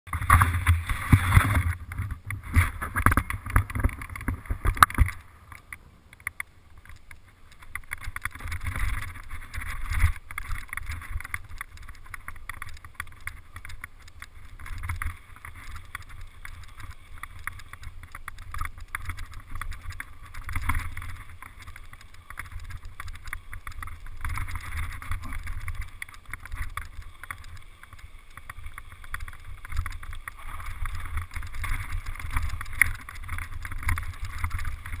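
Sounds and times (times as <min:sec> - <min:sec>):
bike rattles and knocks: 0:00.1 - 0:35.0.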